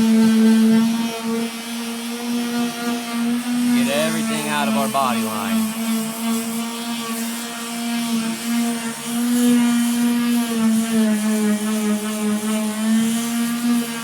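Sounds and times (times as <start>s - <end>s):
electric sander on metal panel: 0.0s - 14.0s.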